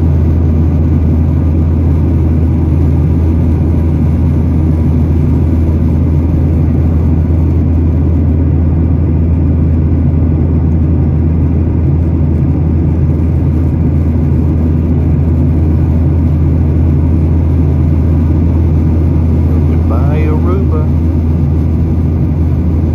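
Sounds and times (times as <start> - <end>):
jet engines low hum: 0.0 - 22.9
rushing air in cabin: 0.0 - 22.9.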